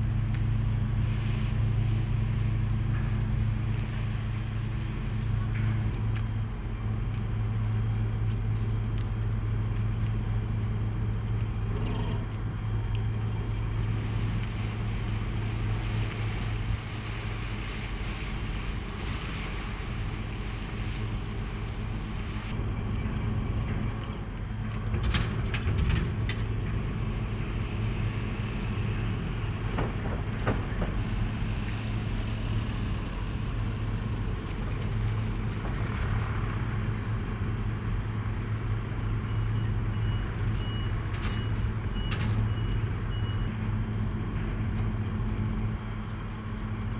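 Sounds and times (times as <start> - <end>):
water noise: 0.0 - 46.9.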